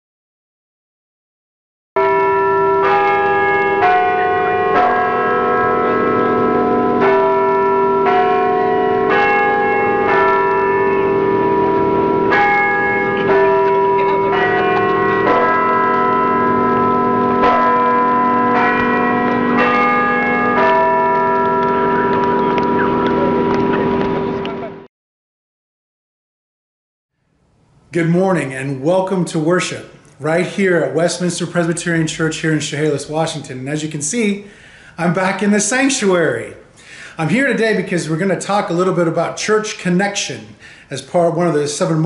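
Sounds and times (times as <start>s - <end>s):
church bells ringing: 2.0s - 24.8s, 29.0s - 36.5s, 37.2s - 42.0s.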